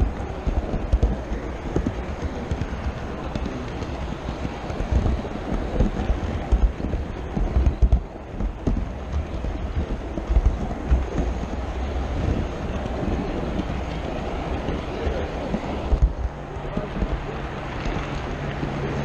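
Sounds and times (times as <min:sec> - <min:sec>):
model train rumbling on track: 0:00.0 - 0:19.0
wheels knocking over rail joints: 0:00.0 - 0:19.0.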